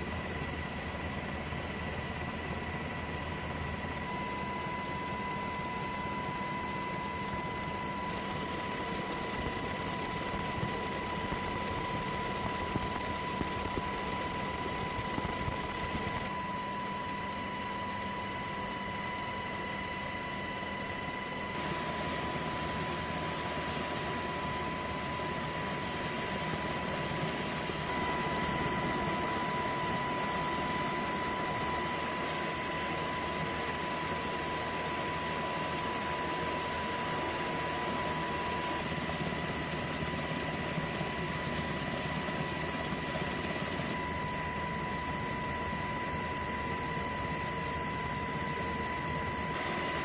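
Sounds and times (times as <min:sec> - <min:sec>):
machinery with high whine: 0:00.0 - 0:50.0.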